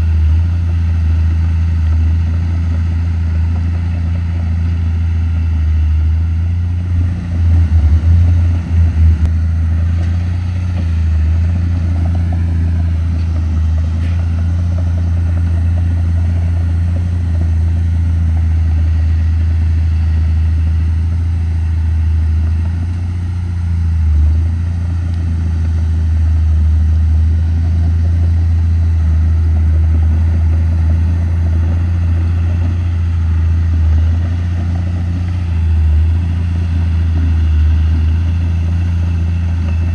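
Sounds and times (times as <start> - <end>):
bulldozer engine under load: 0.0 - 39.9.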